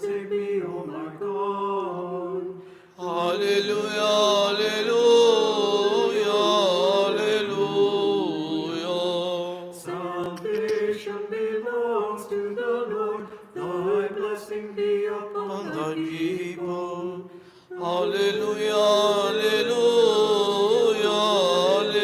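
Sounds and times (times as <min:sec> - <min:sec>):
a cappella liturgical chant: 0:00.0 - 0:22.0.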